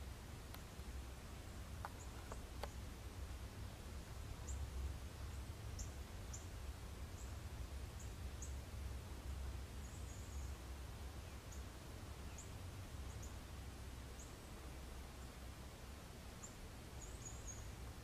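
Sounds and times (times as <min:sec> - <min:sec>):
low steady rumble: 0:00.0 - 0:18.0
small birds chipping: 0:00.4 - 0:03.1, 0:03.9 - 0:18.0.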